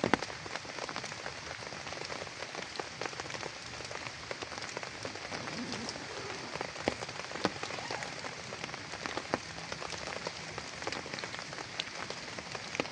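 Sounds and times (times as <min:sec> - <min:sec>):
raindrops ticking close by: 0:00.0 - 0:12.9
steady rain hiss: 0:00.0 - 0:12.9.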